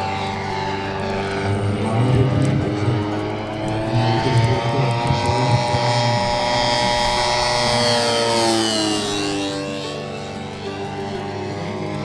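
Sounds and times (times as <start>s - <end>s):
model airplane engine drone: 0.0s - 12.0s.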